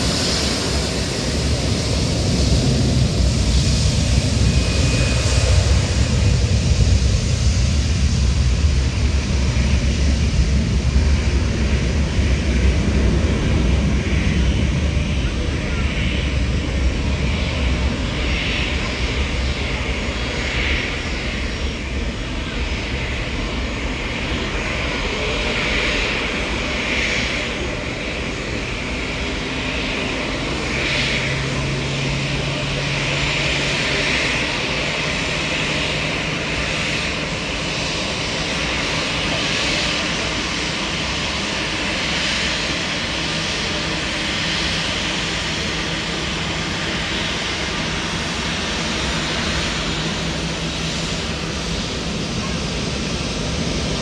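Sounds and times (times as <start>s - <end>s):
airliner engines rumbling: 0.0s - 54.0s.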